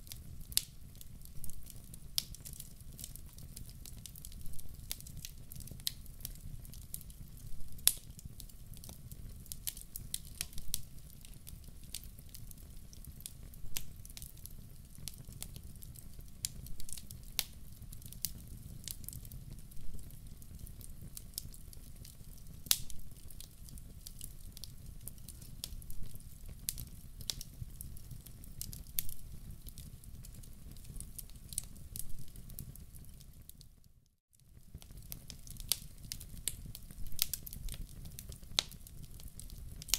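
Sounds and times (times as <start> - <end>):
low rumble of flames: 0.0 - 33.6, 34.4 - 39.9
wood fire popping and snapping: 0.0 - 39.9.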